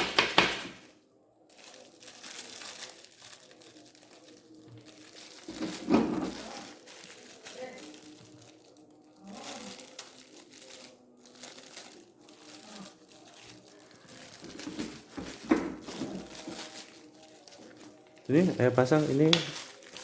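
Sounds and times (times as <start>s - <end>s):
plastic packaging crinkling: 0.0s - 20.0s
faint voices: 0.9s - 20.0s.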